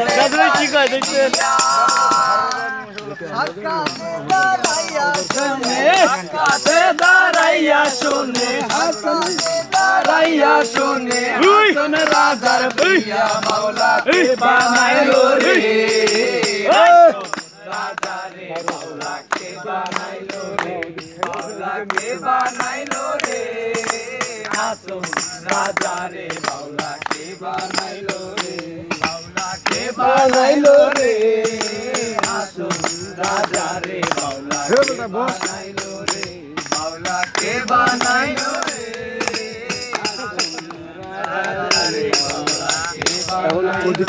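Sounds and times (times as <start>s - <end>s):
jingling hand percussion: 0.0s - 44.0s
men singing together: 0.0s - 44.0s
rhythmic hand clapping: 0.0s - 44.0s.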